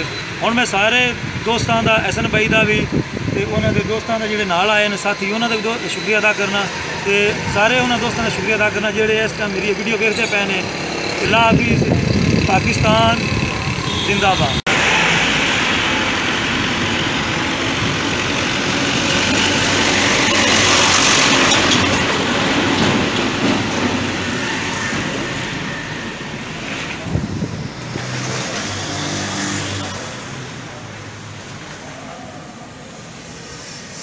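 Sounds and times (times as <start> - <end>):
traffic rumble and hiss: 0.0 - 34.0.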